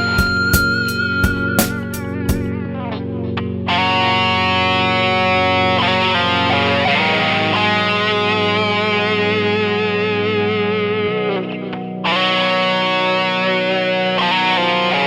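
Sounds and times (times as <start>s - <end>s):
distorted electric guitar: 0.0s - 15.0s
steady lower tones: 0.0s - 15.0s.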